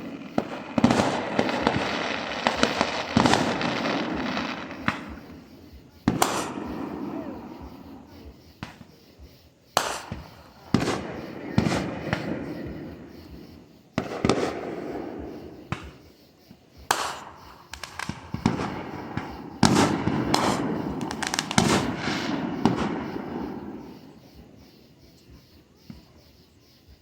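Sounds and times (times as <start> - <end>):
fireworks bangs with rumbling echo: 0.0 - 26.1.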